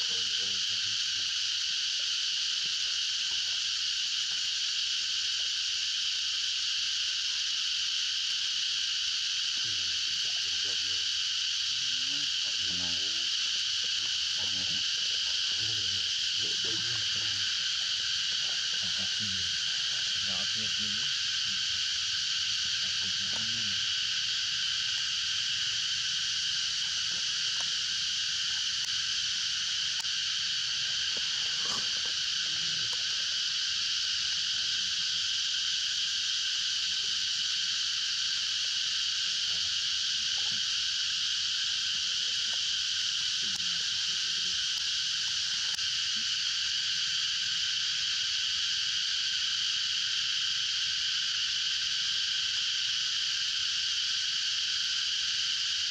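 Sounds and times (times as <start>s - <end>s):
insect chorus: 0.0s - 55.9s.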